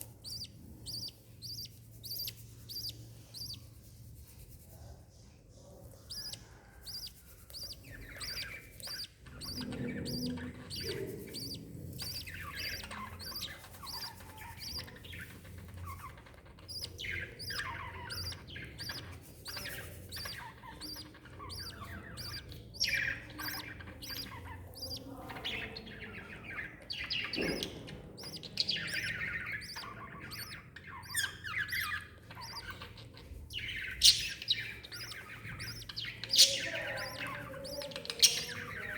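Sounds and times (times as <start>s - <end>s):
birds chattering calls: 0.0s - 3.7s, 6.0s - 38.9s
birds peeping: 0.0s - 38.9s.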